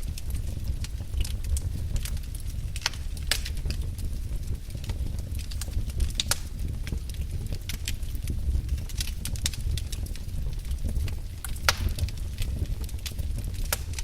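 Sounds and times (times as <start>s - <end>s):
fire flames rumbling: 0.0s - 14.0s
logs crackling and popping: 0.0s - 14.0s.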